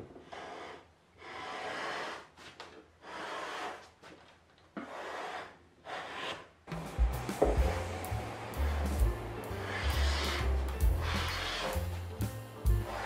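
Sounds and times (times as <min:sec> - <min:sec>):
hand plane shaving wood: 0:00.0 - 0:04.2, 0:04.8 - 0:13.0.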